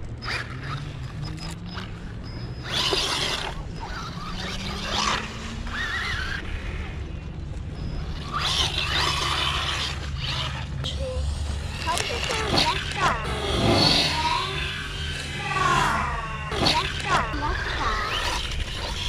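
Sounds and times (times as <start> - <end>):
toy truck electric motor whirring: 0.0 - 7.0, 7.7 - 19.0.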